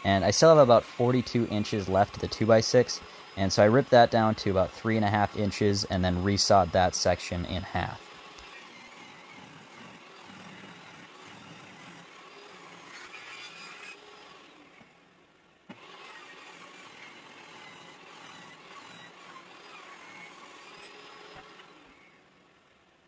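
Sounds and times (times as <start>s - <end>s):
table saw cutting wood: 0.0s - 15.1s, 15.7s - 22.4s.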